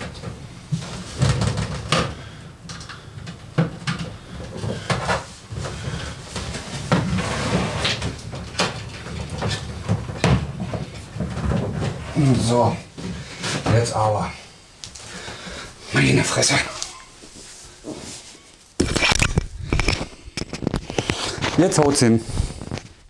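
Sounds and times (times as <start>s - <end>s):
cables and equipment being handled: 0.0s - 14.2s, 16.6s - 23.0s.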